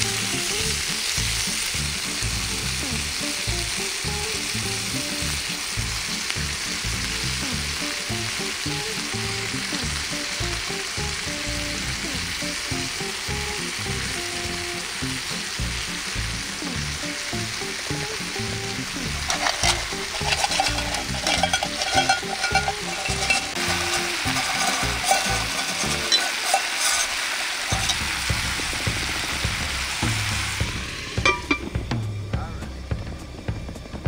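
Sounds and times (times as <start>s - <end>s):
chicken sizzling in a pan: 0.0s - 32.2s.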